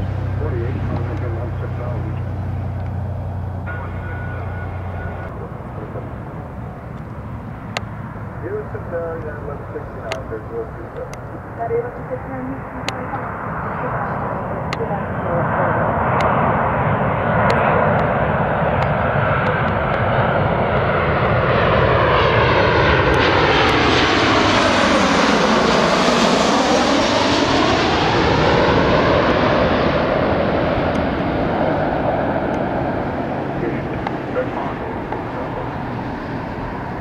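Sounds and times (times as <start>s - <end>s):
jet plane passing overhead: 0.0s - 37.0s.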